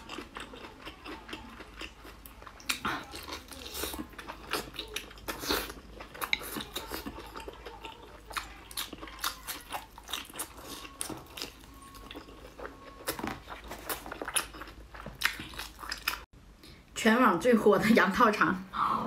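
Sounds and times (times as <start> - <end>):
person chewing with smacking clicks: 0.0 - 16.3.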